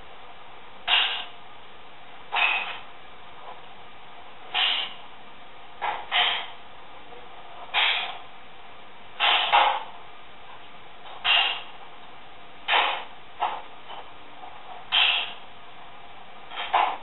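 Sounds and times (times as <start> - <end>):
tape hiss: 0.0 - 17.0.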